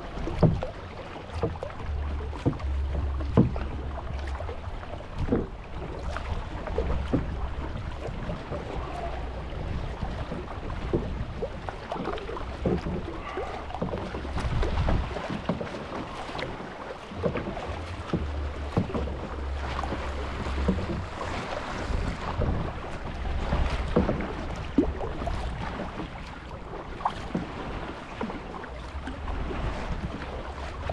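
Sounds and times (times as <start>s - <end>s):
paddle splashing in water: 0.0s - 30.9s
wind rumbling on microphone: 0.0s - 30.9s.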